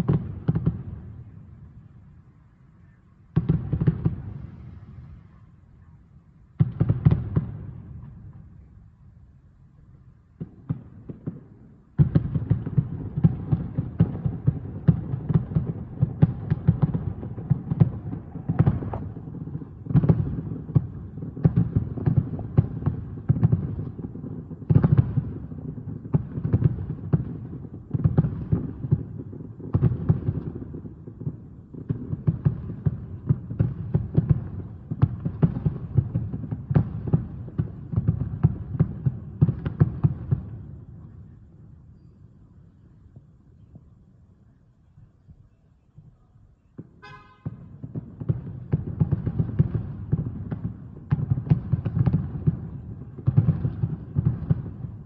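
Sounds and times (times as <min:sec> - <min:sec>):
distant fireworks booms and cracks: 0:00.0 - 0:55.0.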